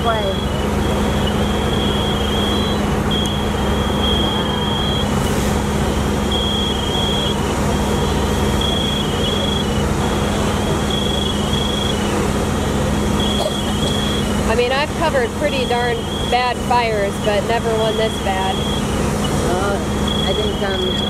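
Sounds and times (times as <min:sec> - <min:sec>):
diesel engine running: 0:00.0 - 0:21.0
high electronic beeping: 0:00.0 - 0:21.0.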